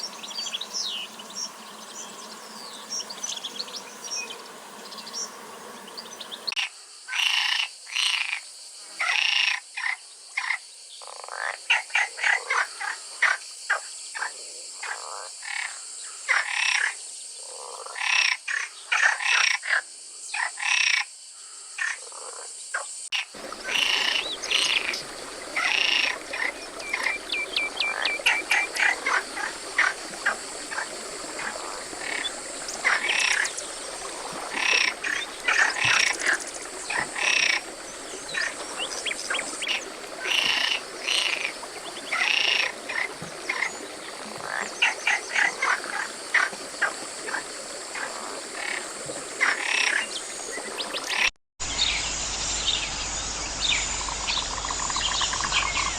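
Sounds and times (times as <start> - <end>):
frogs croaking: 0.0 - 55.9.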